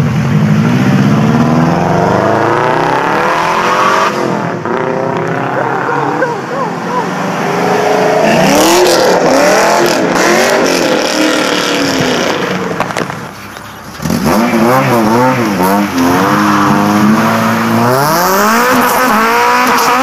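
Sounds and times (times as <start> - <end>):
car engine accelerating: 0.0 - 20.0
car engine revving: 0.0 - 20.0.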